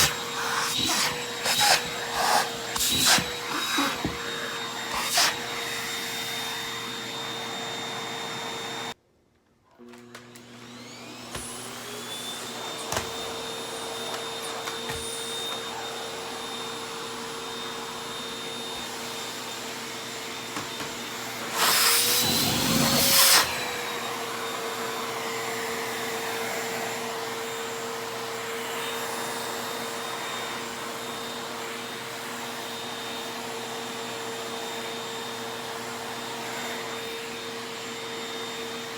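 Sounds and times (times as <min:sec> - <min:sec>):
vacuum cleaner motor whining: 0:00.0 - 0:09.0, 0:09.8 - 0:38.9.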